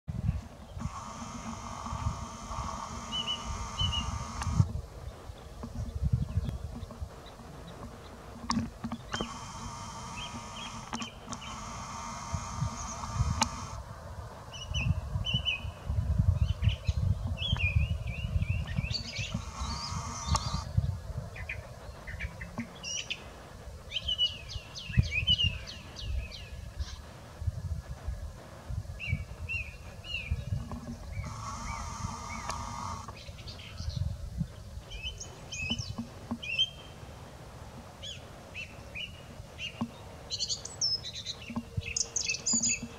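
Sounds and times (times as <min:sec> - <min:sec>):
small birds chirping: 0:00.4 - 0:13.8, 0:16.4 - 0:27.2, 0:29.0 - 0:37.2, 0:38.0 - 0:42.9.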